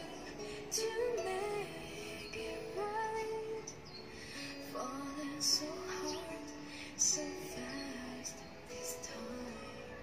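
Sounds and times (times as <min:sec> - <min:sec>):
song with held vocal notes: 0:00.0 - 0:10.0.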